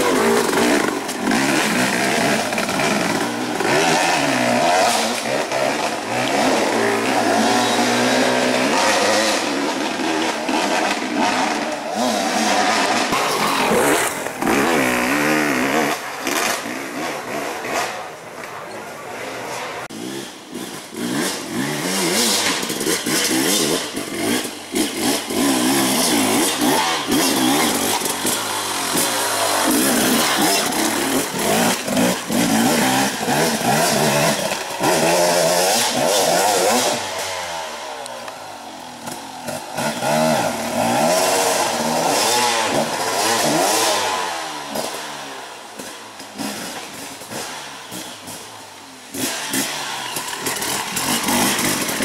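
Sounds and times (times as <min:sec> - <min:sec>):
dirt bike engine revving: 0:00.0 - 0:18.2, 0:19.1 - 0:52.0.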